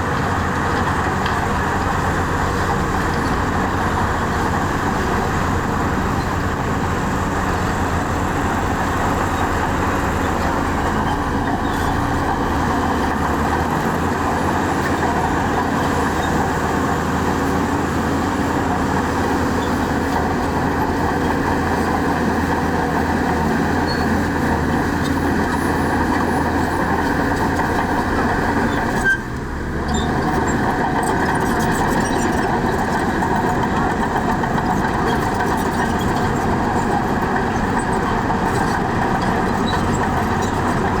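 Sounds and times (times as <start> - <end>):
heavy diesel machinery running: 0.0 - 41.0.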